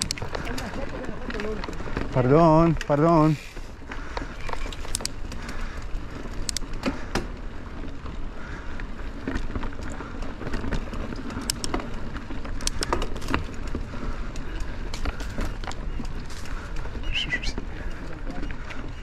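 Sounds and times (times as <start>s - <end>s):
bike clicking and knocking on stones: 0.0s - 19.0s
wind and rolling tyres rumble: 0.0s - 19.0s.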